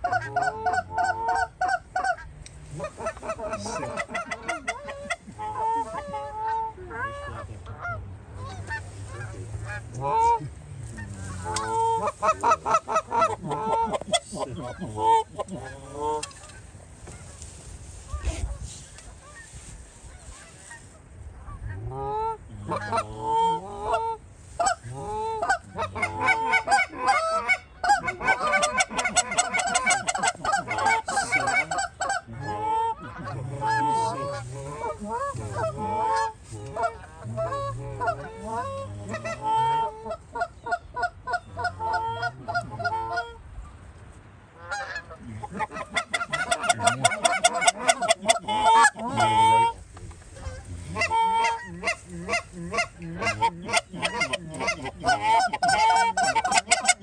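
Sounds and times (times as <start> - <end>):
geese honking: 0.0 - 43.8, 44.6 - 57.0.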